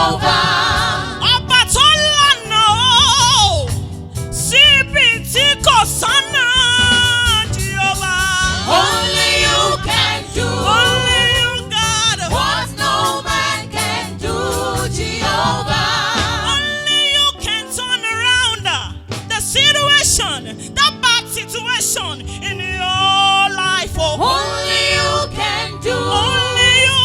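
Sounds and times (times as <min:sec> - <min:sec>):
backing accompaniment: 0:00.0 - 0:27.0.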